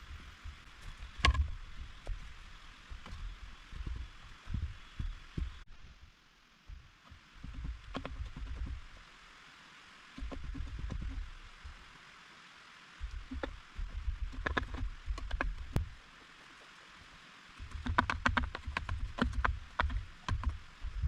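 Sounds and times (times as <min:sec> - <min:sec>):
rain hissing: 0:00.0 - 0:21.0.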